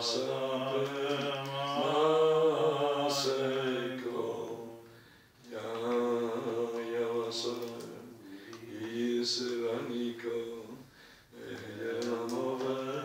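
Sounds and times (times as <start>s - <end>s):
man singing prayer melody: 0.0s - 4.8s, 5.4s - 13.0s.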